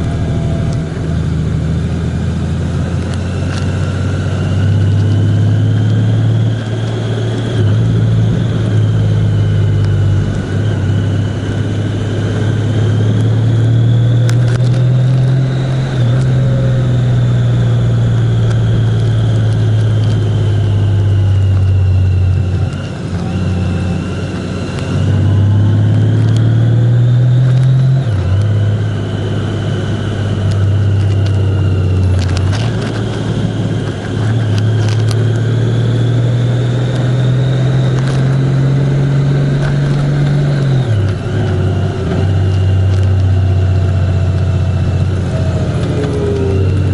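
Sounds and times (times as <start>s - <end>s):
road and wind noise: 0.0s - 46.9s
vehicle engine running: 0.0s - 46.9s.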